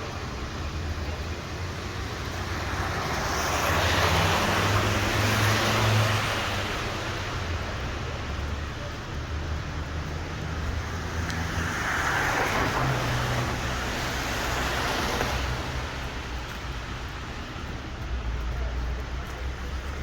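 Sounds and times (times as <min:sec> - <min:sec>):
low engine and traffic hum: 0:00.0 - 0:20.0
tyres hissing on wet street: 0:00.0 - 0:20.0.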